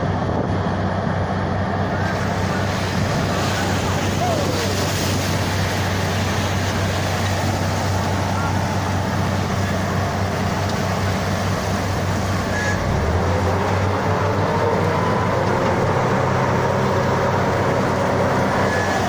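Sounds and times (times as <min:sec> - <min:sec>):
drilling rig engine hum: 0:00.0 - 0:19.0
water and air blasting: 0:00.0 - 0:19.0.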